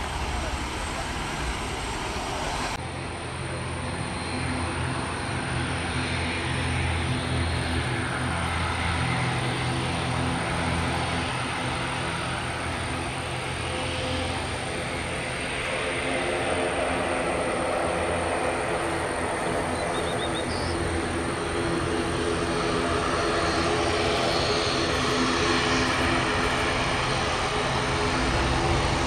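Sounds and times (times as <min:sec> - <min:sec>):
jet climbing after takeoff: 0:00.0 - 0:29.0
jet engines droning: 0:00.0 - 0:29.0.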